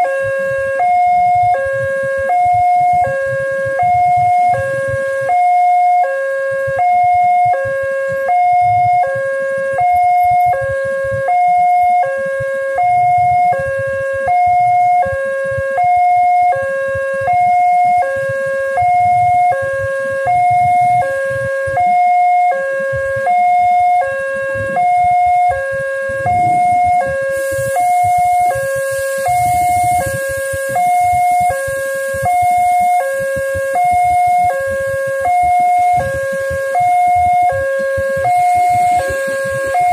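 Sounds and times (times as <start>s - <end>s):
two-tone electronic crossing alarm: 0.0s - 39.9s.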